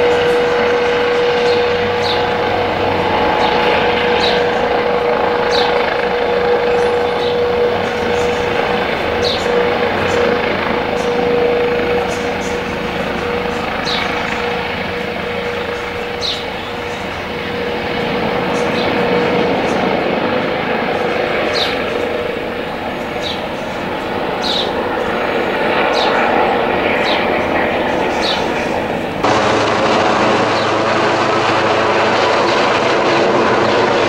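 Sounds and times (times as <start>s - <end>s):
helicopter rotor and turbine drone: 0.0s - 34.0s.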